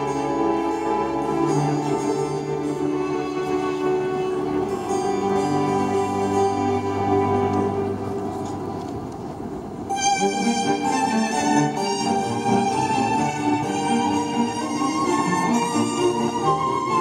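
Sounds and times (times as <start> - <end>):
orchestra strings holding notes: 0.0 - 17.0.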